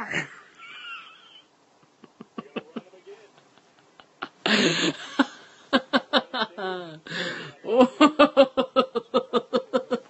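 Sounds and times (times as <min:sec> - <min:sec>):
man laughing uncontrollably: 0:00.0 - 0:07.0, 0:07.8 - 0:10.0.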